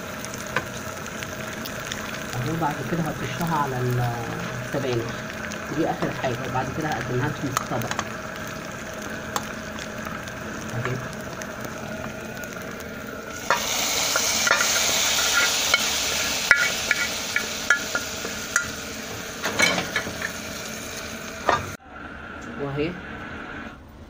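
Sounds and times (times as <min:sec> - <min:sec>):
frying in hot oil: 0:00.0 - 0:23.8
loud sizzle: 0:00.0 - 0:24.0.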